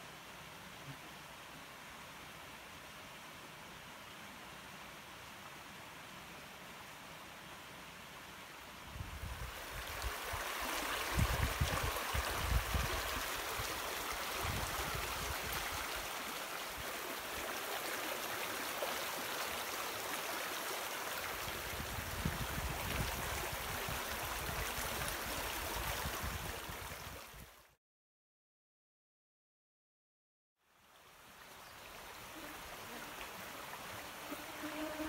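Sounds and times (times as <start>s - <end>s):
stream running over stones: 0.0s - 27.7s, 30.7s - 34.6s.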